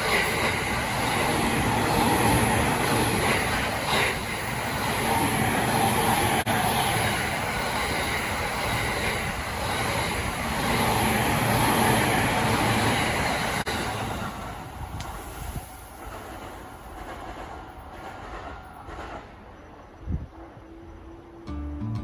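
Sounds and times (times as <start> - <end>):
train rumbling on rails: 0.0 - 21.6.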